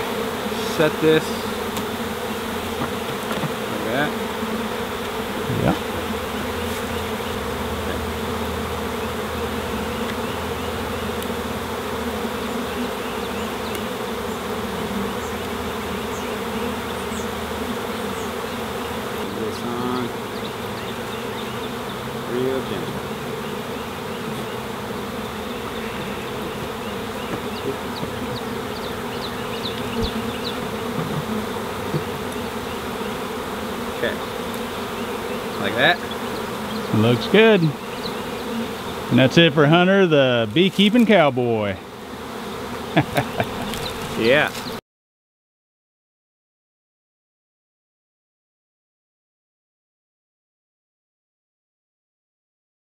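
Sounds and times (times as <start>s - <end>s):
bees buzzing: 0.0s - 44.8s.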